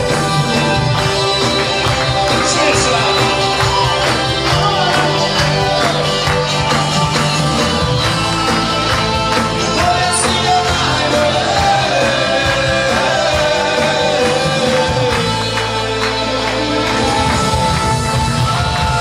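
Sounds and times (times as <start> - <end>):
live band with singer: 0.0 - 19.0.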